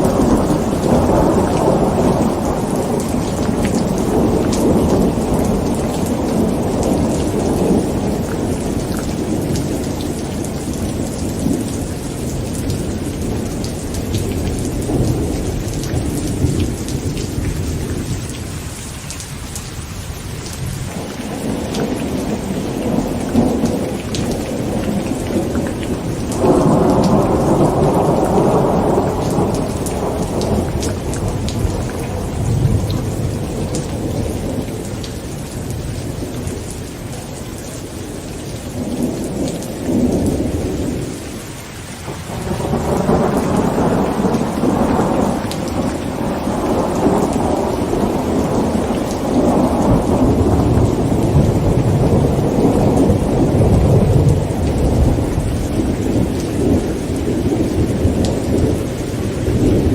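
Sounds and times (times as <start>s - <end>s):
rolling thunder: 0.0s - 18.4s, 20.4s - 36.7s, 42.1s - 59.9s
heavy rain on a tent: 0.0s - 59.9s.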